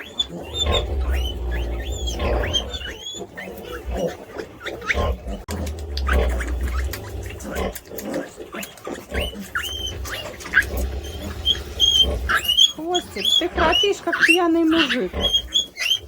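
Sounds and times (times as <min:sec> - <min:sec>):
pig snoring: 0:00.0 - 0:16.0
piglets squealing: 0:00.0 - 0:16.0.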